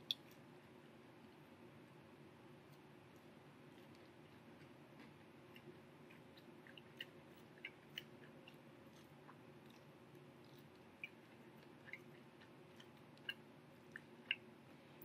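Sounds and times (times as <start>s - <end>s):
low room hum: 0.0s - 15.0s
faint chewing mouth clicks: 2.6s - 15.0s.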